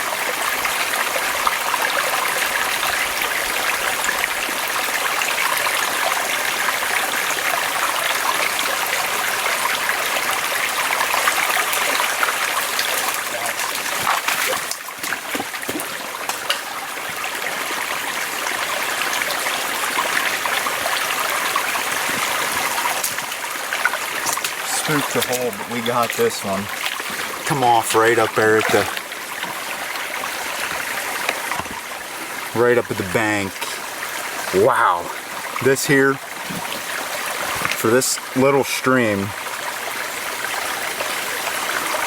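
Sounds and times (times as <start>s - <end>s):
stream babbling over rocks: 0.0s - 42.0s.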